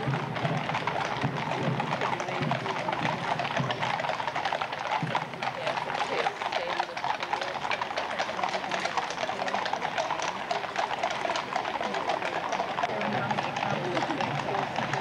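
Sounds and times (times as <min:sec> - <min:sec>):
horse hooves on pavement: 0:00.0 - 0:15.0.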